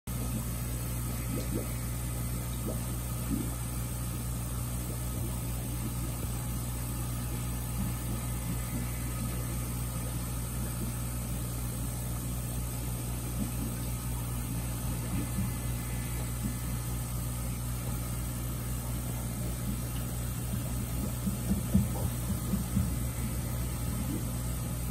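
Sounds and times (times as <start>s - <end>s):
low mechanical hum: 0.1s - 24.9s.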